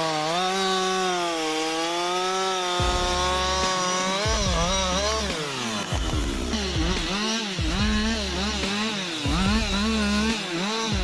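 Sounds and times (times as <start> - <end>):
chainsaw running at high revs: 0.0 - 11.0.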